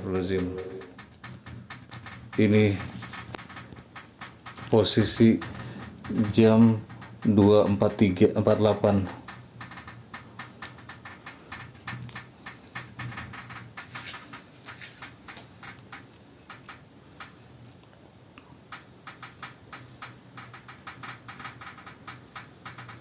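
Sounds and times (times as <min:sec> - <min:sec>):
glass panes rattling in frame: 0:00.0 - 0:17.4, 0:19.1 - 0:23.0.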